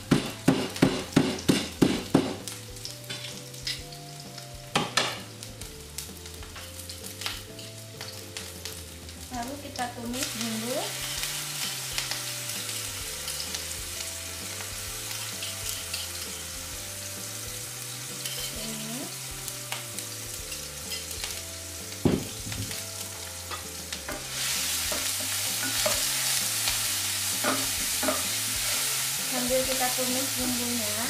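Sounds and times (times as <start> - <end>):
spice paste sizzling in hot oil: 0.0 - 31.0.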